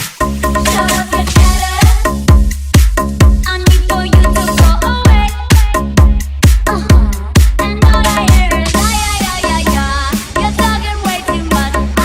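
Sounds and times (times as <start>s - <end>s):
electronic dance music: 0.0s - 12.0s
thumping kick drum: 1.2s - 12.0s.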